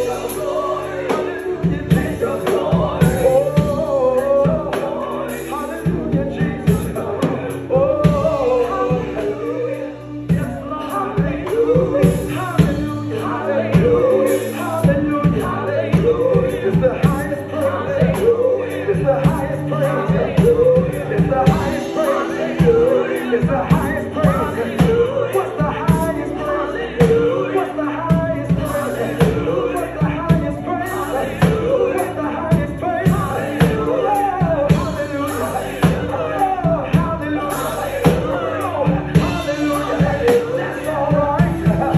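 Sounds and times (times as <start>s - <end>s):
gospel band playing: 0.0s - 41.9s
man singing: 0.0s - 41.9s
steady drum beat: 0.0s - 41.9s.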